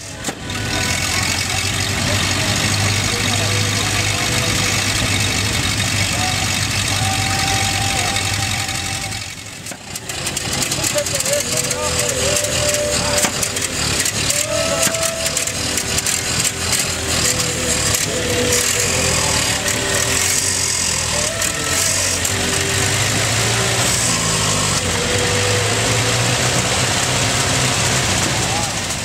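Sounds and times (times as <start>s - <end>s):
car engines running: 0.0s - 29.0s
people talking: 0.0s - 29.0s.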